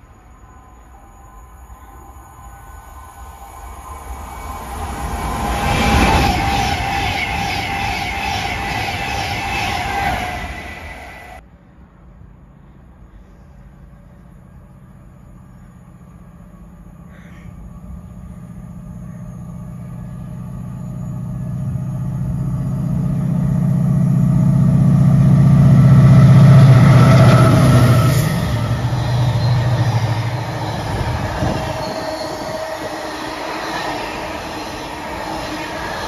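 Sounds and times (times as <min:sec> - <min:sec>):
locomotive low hum: 0:01.3 - 0:11.4, 0:12.2 - 0:36.0.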